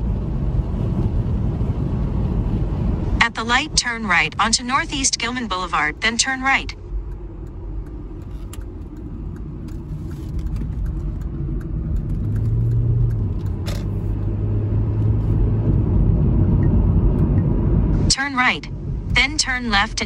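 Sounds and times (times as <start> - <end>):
car engine accelerating: 0.0 - 18.1
steady low engine hum: 0.0 - 20.0.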